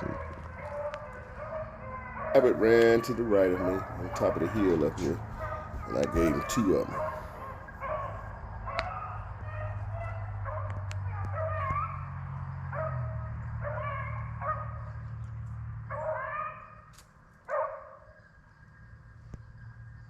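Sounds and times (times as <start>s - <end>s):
hounds baying: 0.0s - 15.1s, 15.8s - 18.9s.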